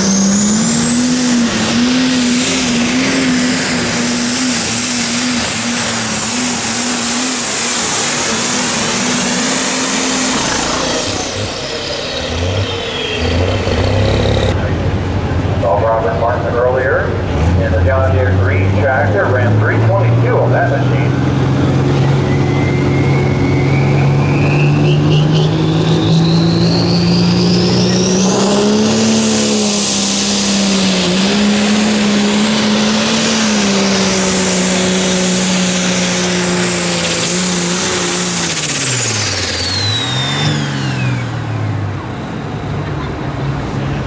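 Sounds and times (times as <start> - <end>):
tractor engine under load: 0.0 - 24.4, 27.5 - 44.0
high whine: 0.0 - 42.1.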